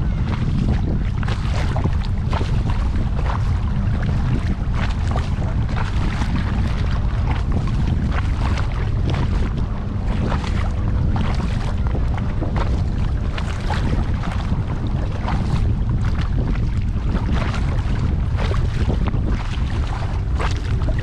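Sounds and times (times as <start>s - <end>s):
paddle splashes: 0.0s - 21.0s
water lapping at hull: 0.0s - 21.0s
wind rumble on microphone: 0.0s - 21.0s.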